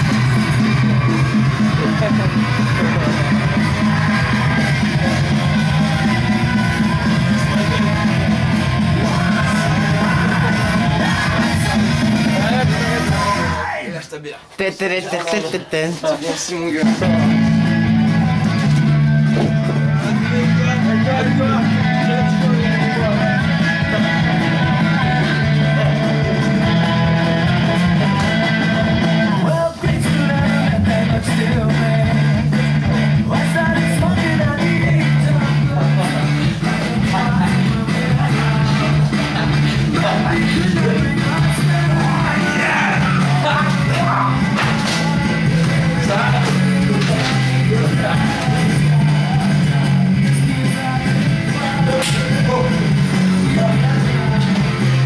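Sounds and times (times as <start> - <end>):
loud rock music with singing: 0.0 - 13.8, 16.8 - 55.0.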